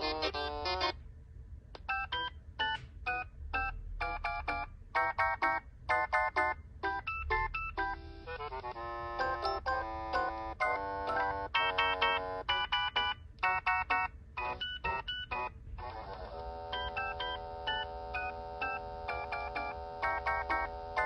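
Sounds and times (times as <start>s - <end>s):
phone ringtone synthesized tune: 1.9s - 21.0s.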